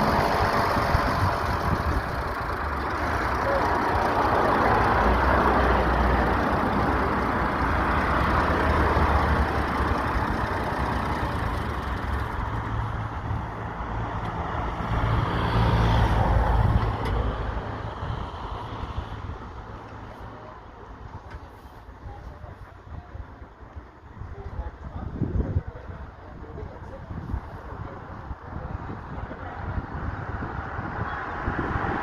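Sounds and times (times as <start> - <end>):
heavy vehicles driving past: 0.0 - 32.0.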